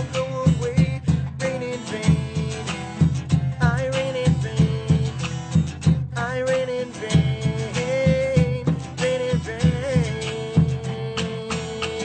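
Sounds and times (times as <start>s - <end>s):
acoustic guitars strummed: 0.0s - 12.0s
man singing: 0.0s - 12.0s.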